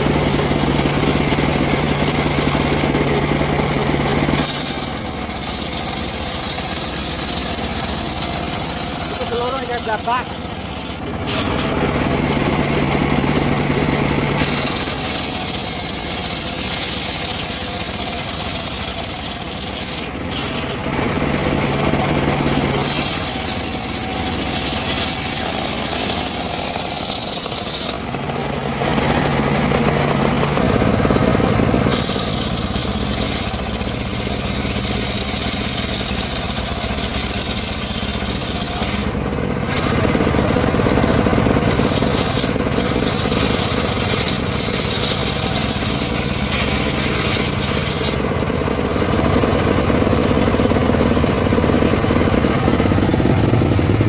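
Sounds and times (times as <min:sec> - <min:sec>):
engine saw cutting timber: 0:00.0 - 0:54.0.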